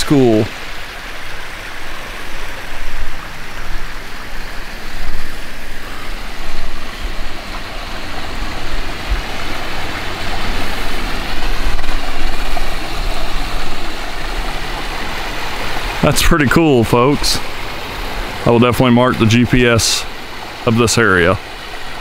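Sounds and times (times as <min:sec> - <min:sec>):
creek water rushing over rocks: 0:00.0 - 0:22.0
low water rumble: 0:00.0 - 0:22.0.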